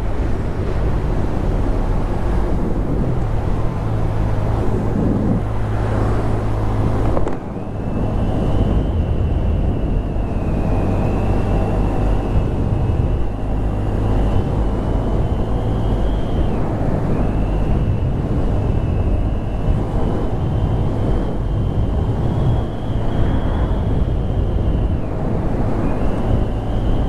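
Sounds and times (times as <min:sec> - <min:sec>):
thin wavering high whine: 0:00.0 - 0:27.0.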